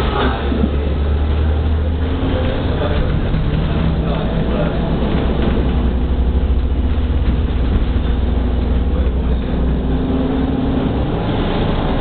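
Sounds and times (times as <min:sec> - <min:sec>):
trolleybus ride rumble: 0:00.0 - 0:12.0.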